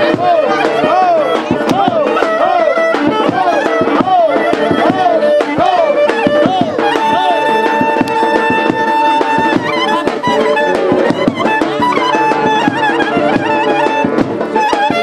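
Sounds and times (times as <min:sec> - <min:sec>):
drum beats: 0:00.0 - 0:15.0
ornamented folk melody instrument: 0:00.0 - 0:15.0.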